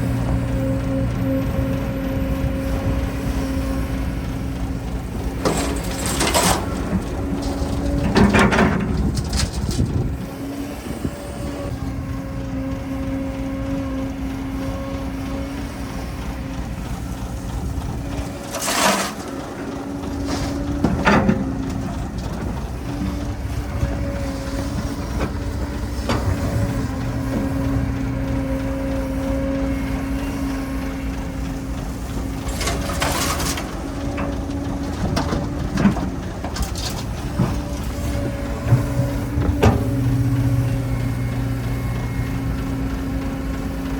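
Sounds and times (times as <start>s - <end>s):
diesel machinery humming: 0.0s - 43.9s.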